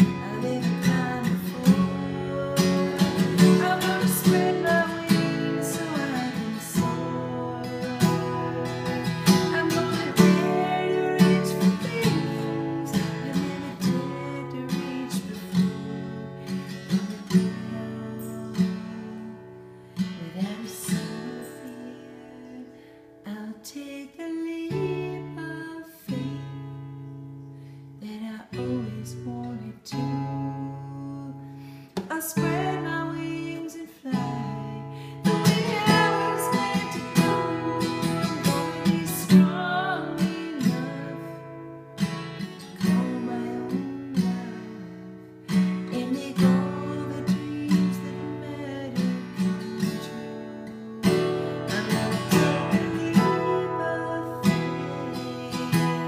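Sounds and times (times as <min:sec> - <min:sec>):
acoustic guitar strumming: 0:00.0 - 0:23.5, 0:24.7 - 0:56.0
woman singing: 0:00.0 - 0:27.3, 0:28.0 - 0:41.9, 0:42.5 - 0:56.0.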